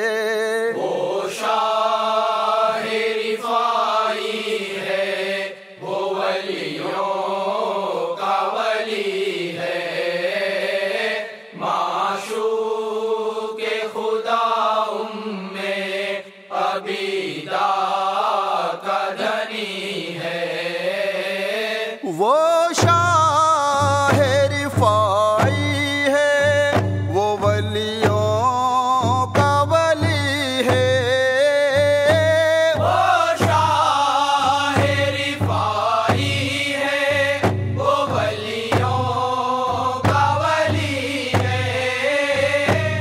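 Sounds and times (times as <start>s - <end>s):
men chanting devotional song: 0.0s - 43.0s.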